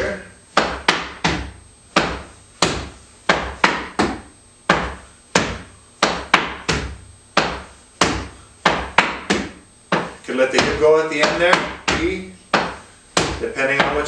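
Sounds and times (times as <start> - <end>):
dance shoes striking wooden floor: 0.0 - 14.0.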